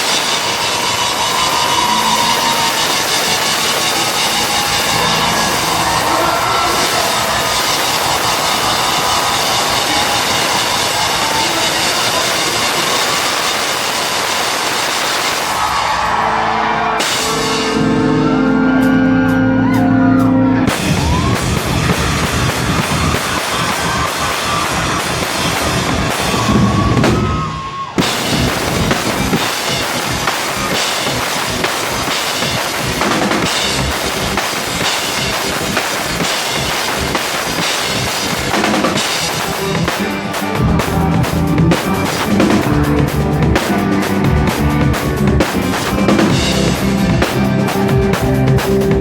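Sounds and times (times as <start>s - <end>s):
rock band playing loud: 0.0s - 49.0s.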